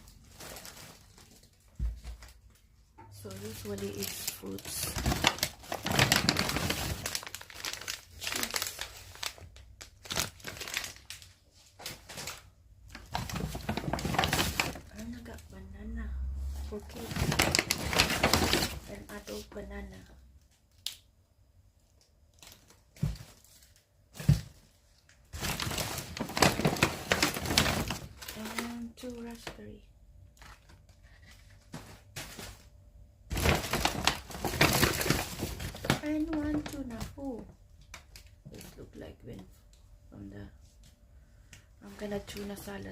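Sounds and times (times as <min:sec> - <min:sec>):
packaging rustling and crinkling: 0:00.0 - 0:15.4, 0:16.5 - 0:19.5, 0:22.0 - 0:29.7, 0:30.3 - 0:39.5.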